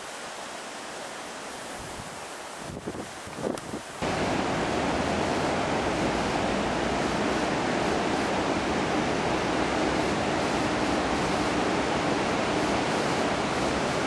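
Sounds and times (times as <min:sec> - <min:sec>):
river rushing in flood: 0:00.0 - 0:14.0.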